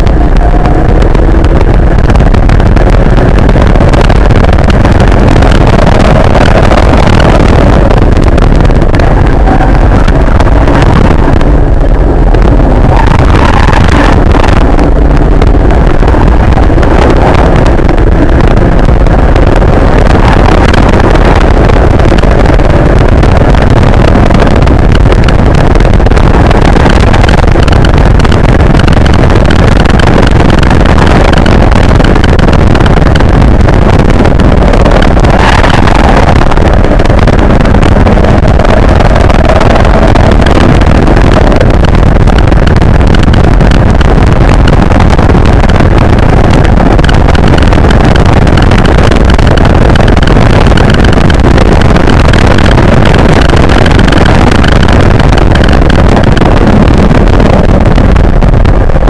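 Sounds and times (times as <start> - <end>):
car engine running hard: 0.0 - 59.0
road and wind noise: 0.0 - 59.0.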